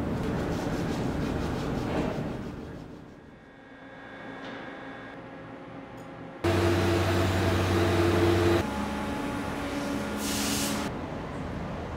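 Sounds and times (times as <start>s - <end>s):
factory machine hum: 0.0s - 11.9s.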